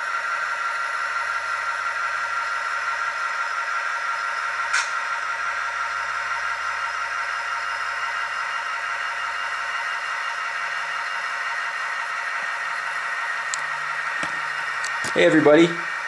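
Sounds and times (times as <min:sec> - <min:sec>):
diesel engine sound from small speaker: 0:00.0 - 0:16.0.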